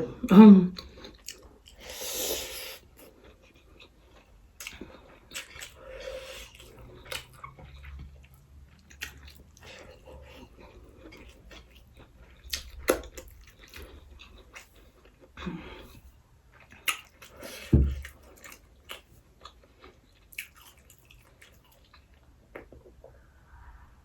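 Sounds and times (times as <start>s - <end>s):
chewing fried rice: 0.8s - 22.9s.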